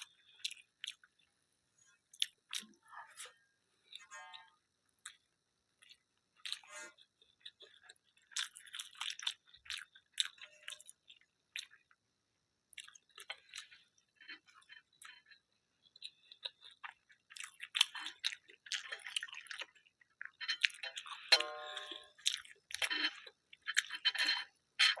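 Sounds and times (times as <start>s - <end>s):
person chewing food: 0.0s - 25.0s.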